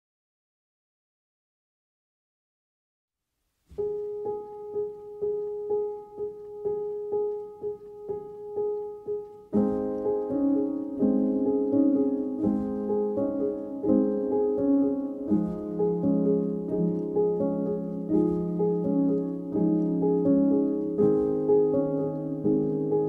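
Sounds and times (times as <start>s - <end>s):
piano music: 3.7s - 23.0s.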